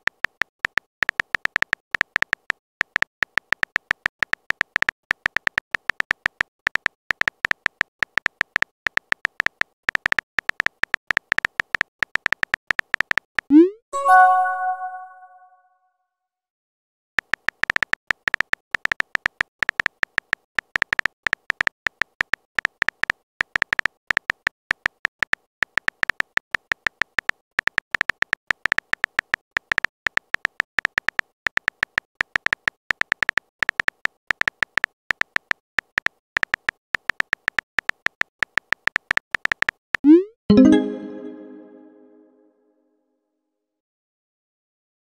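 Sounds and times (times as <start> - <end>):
phone keyboard typing clicks: 0.0 - 13.5, 17.2 - 41.1.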